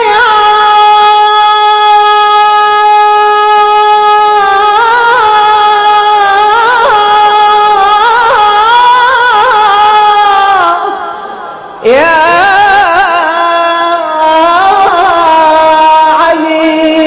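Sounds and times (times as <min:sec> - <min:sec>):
person singing a devotional chant: 0:00.0 - 0:17.0.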